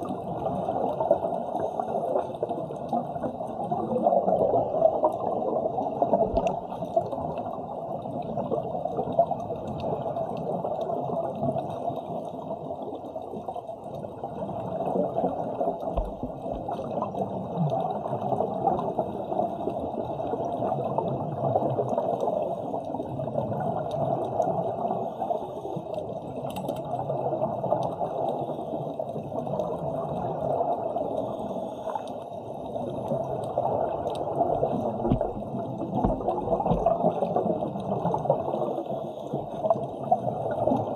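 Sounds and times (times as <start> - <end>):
underwater rushing bubbling water: 0.0 - 40.9.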